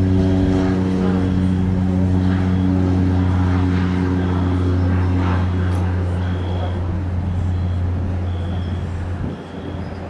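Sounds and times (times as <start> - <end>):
turboprop propeller drone: 0.0 - 10.0.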